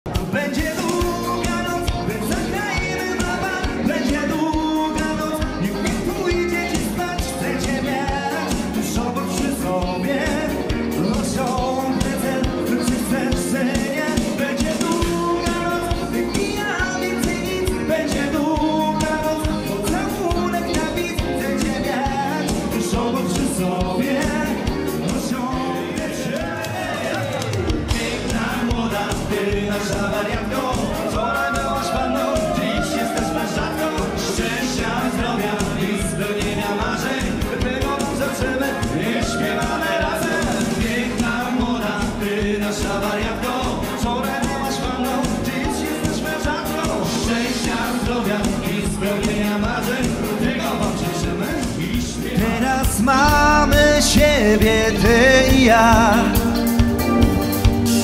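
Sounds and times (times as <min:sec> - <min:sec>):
person singing: 0:00.1 - 0:58.0
steady drum beat: 0:00.1 - 0:58.0
upbeat dance music: 0:00.1 - 0:58.0.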